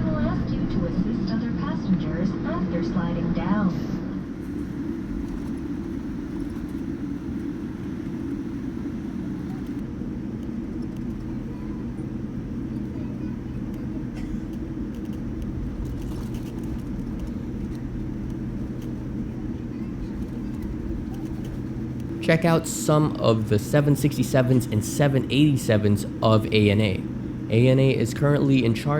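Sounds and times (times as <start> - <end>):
airplane taxiing rumble in cabin: 0.0 - 28.9
cabin air hum: 0.1 - 28.9.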